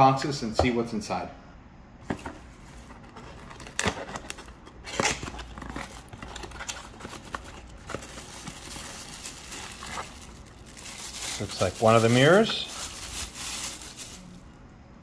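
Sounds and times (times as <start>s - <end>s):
packaging clicks and crinkling: 2.1s - 14.4s.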